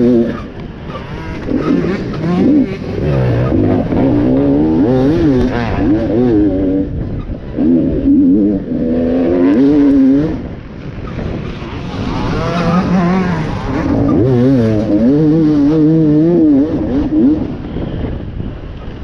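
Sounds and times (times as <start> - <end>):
dirt bike engine revving: 0.0 - 17.5.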